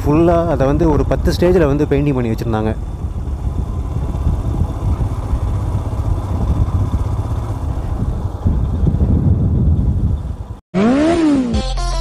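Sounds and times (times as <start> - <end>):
motorcycle engine rumble: 0.0 - 11.4.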